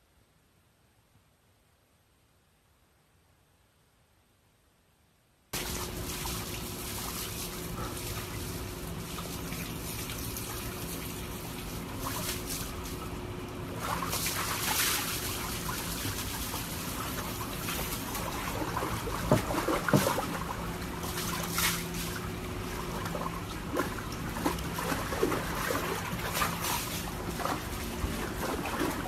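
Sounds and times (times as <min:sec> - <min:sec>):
water splashing in a plastic tub: 0:05.6 - 0:29.0.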